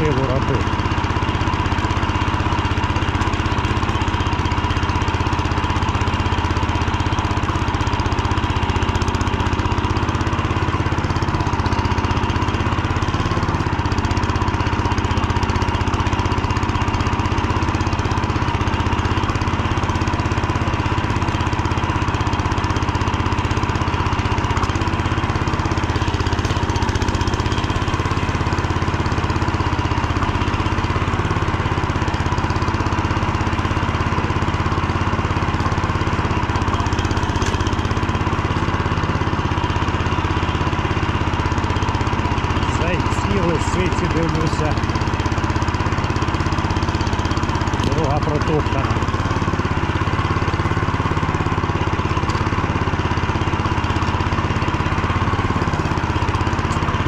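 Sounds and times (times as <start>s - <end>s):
petrol engine running: 0.0s - 57.0s.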